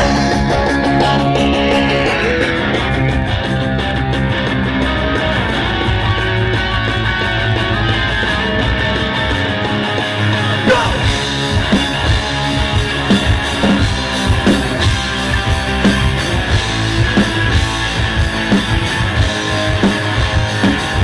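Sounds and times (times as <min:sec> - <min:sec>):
distorted electric guitars: 0:00.0 - 0:21.0
drums steady beat: 0:00.0 - 0:21.0
electric bass: 0:00.0 - 0:21.0.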